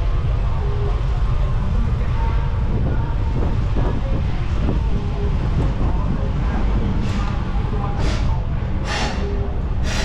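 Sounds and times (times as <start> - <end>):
street traffic: 0.0 - 10.0
wind buffeting microphone: 0.0 - 10.0.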